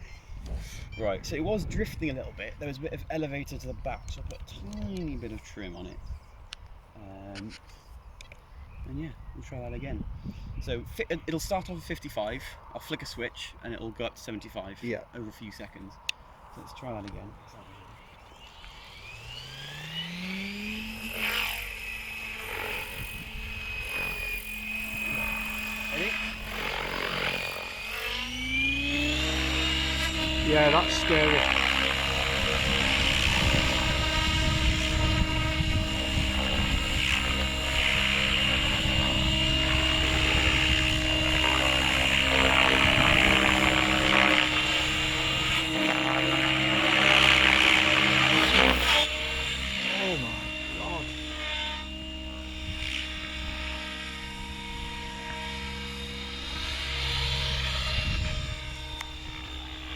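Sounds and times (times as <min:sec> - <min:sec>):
helicopter rotor and motor whine: 0:00.0 - 0:59.9.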